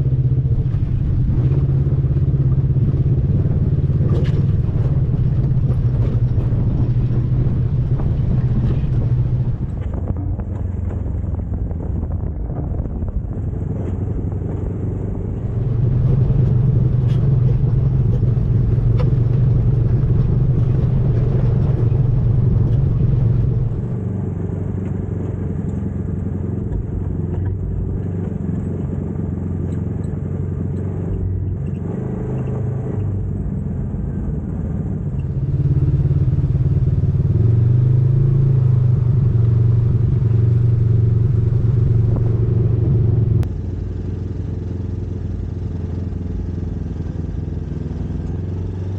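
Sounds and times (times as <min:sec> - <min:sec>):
utility vehicle engine running: 0:00.0 - 0:48.9.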